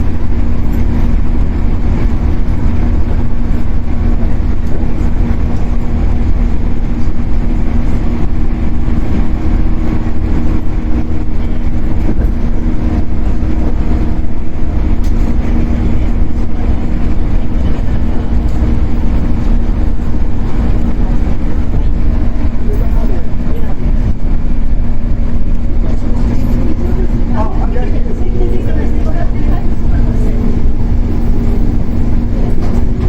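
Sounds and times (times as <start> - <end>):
traction motor hum: 0.0 - 33.0
train wheels rumbling on rails: 0.0 - 33.0.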